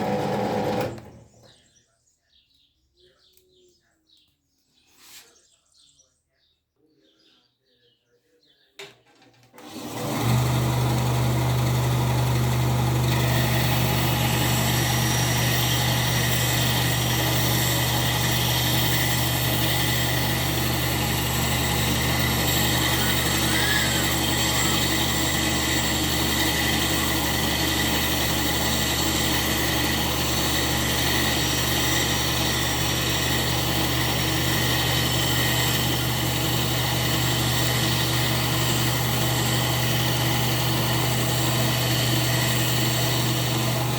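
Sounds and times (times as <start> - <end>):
workshop machine humming: 0.0 - 1.6, 8.8 - 43.9.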